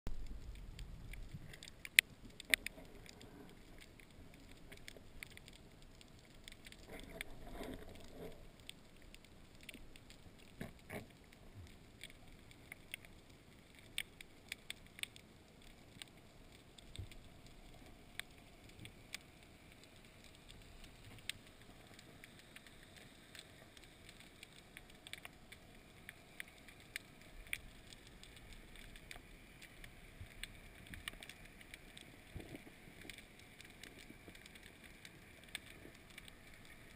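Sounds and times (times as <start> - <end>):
low hiss: 0.1 - 36.9
underwater clicks and crackles: 0.1 - 36.9.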